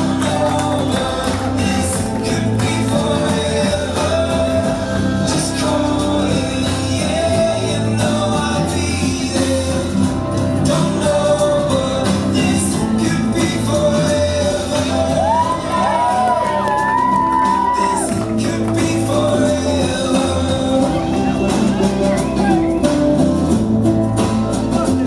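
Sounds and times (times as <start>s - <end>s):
song with singer: 0.0s - 25.0s.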